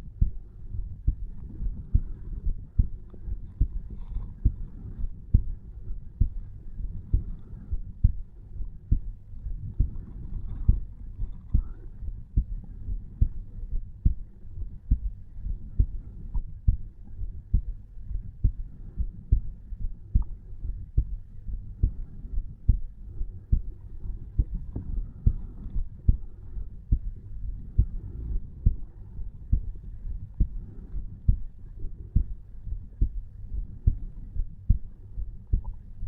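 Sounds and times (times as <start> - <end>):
heartbeat lub-dub: 0.0 - 36.0
low hum: 0.0 - 36.0.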